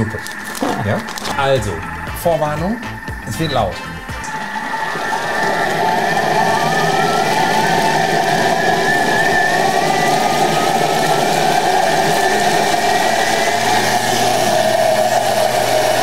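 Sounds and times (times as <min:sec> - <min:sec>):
blender running at high speed: 0:00.0 - 0:03.1, 0:04.1 - 0:16.0.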